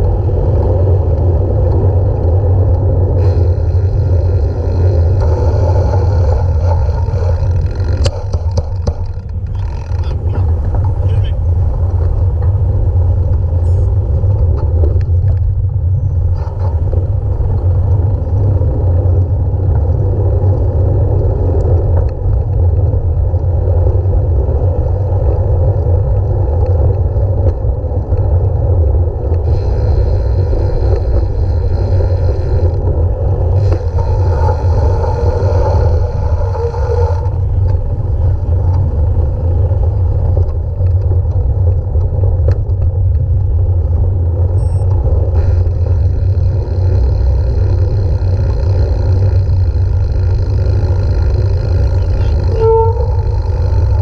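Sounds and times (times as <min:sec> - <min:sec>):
high whirring tones: 0:00.0 - 0:54.0
wind rumble on microphone: 0:00.0 - 0:54.0.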